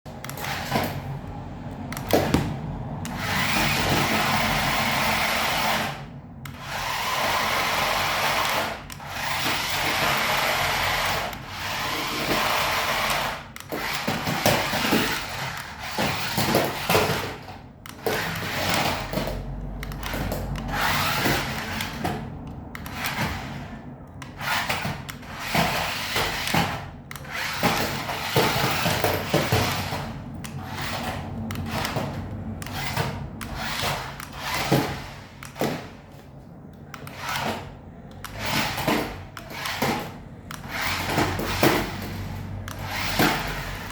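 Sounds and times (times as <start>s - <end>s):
toy car electric motor whirring: 0.1s - 36.2s, 36.8s - 43.9s.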